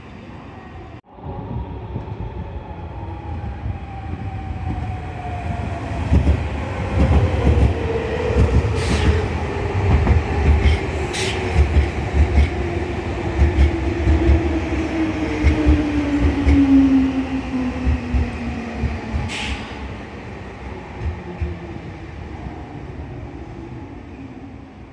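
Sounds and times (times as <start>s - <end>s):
train wheels rumbling and clattering: 1.4s - 22.8s.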